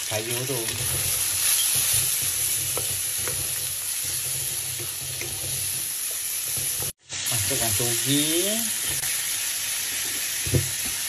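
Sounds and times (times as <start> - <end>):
prawns sizzling in oil: 0.0 - 11.0.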